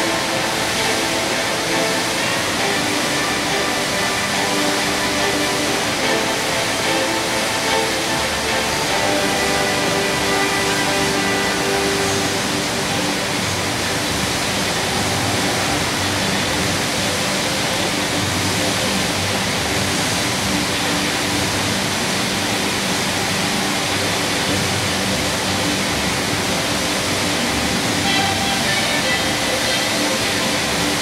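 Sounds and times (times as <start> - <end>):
fountain water splashing: 0.0 - 31.0.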